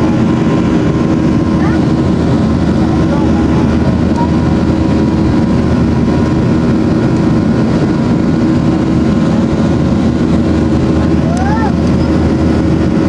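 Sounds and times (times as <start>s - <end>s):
jet engine drone in cabin: 0.0s - 13.0s.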